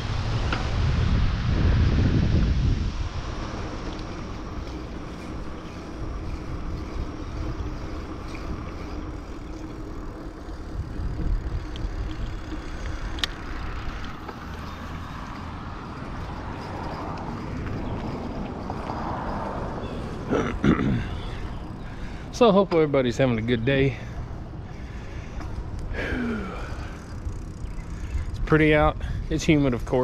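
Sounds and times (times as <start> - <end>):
bicycle tyres rumbling on road: 0.0 - 30.0
wind buffeting microphone: 0.0 - 30.0.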